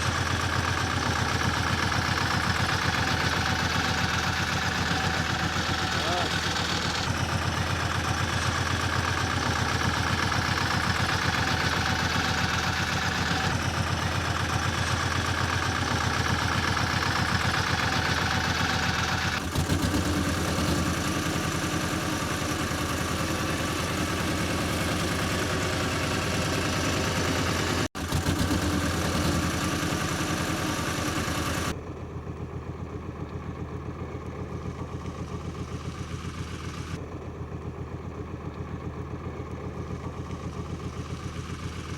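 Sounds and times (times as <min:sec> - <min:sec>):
road roller engine running: 0:00.0 - 0:41.9.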